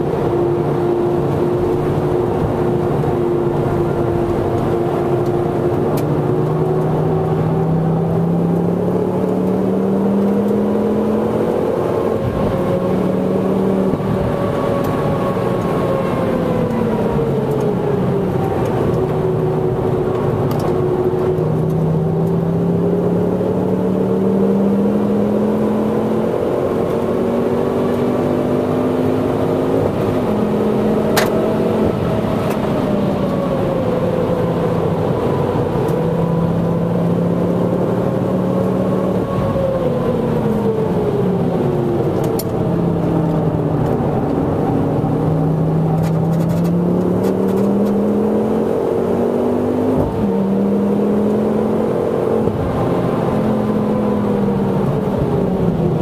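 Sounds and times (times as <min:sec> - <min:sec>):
car engine revving from inside: 0:00.0 - 0:56.0.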